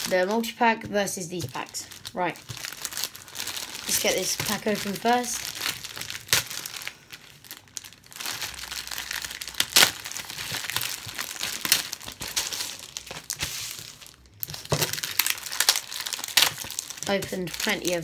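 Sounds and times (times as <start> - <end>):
packaging crinkling and tearing: 0.0 - 0.3, 1.3 - 18.0.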